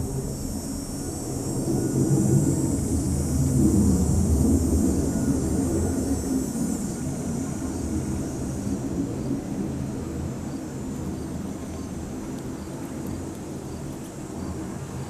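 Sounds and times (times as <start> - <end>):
distant aircraft rumble: 0.0 - 15.0.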